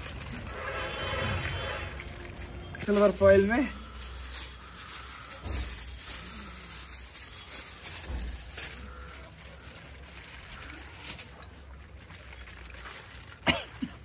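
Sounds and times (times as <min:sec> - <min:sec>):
aluminium foil crinkling: 0:00.0 - 0:14.0.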